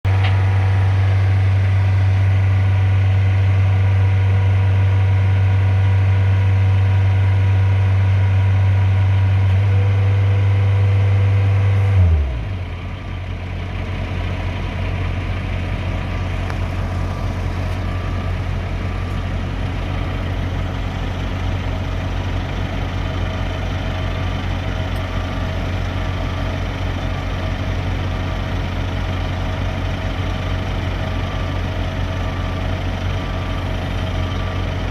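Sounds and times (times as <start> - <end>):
truck diesel engine idling: 0.0 - 9.5, 11.0 - 34.9.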